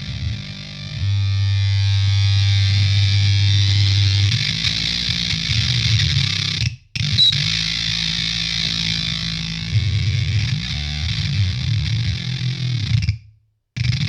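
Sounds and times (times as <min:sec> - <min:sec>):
heavy fuzz electric guitar: 0:00.0 - 0:13.2, 0:13.8 - 0:14.0.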